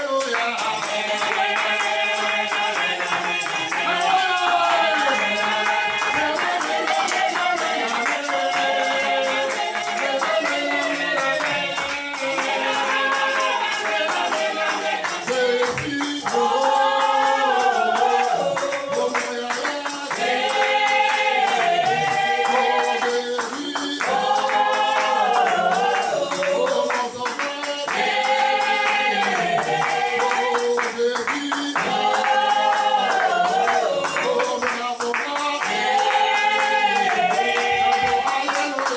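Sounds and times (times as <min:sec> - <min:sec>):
tambourine-like percussion: 0:00.0 - 0:38.9
voices singing held phrases: 0:00.0 - 0:38.9.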